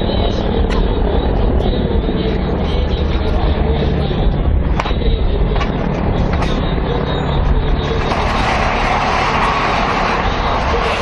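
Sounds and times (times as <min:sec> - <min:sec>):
helicopter rotor and engine noise: 0:00.0 - 0:11.0.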